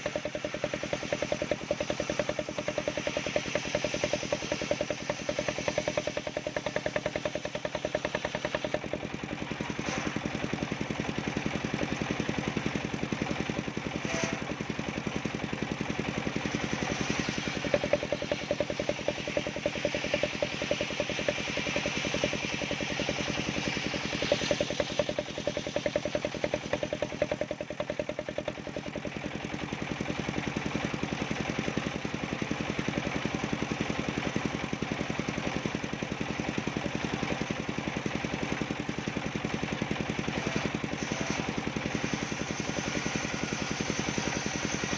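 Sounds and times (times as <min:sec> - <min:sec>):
circular saw cutting wood: 0:00.0 - 0:34.6, 0:40.0 - 0:44.9.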